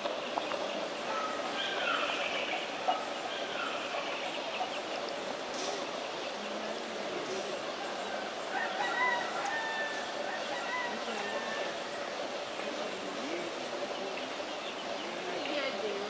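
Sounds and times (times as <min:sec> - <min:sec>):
background hiss: 0:00.0 - 0:16.0
birds chirping: 0:00.0 - 0:16.0.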